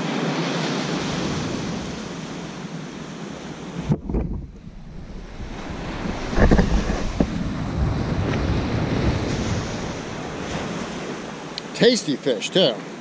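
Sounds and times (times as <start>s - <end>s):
ocean surf on sandy beach: 0.0s - 13.0s
wind rumbling on microphone: 0.7s - 11.6s.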